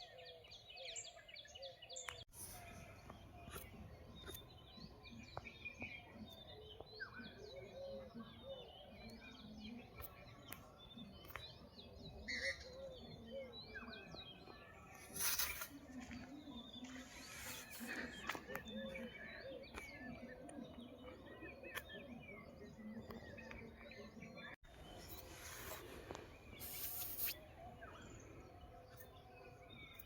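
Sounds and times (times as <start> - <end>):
birds chirping: 0.0 - 30.0
lower repeated bird calls: 0.0 - 30.0.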